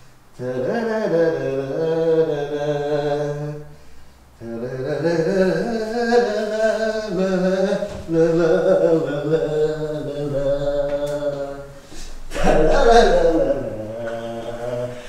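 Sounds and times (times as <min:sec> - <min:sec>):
man singing wordless tune: 0:00.3 - 0:03.8, 0:04.4 - 0:15.0.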